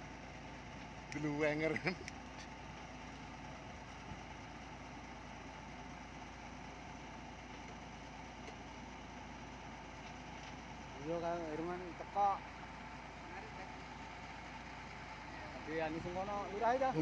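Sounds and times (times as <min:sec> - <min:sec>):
heavy diesel engine idling: 0:00.0 - 0:17.0.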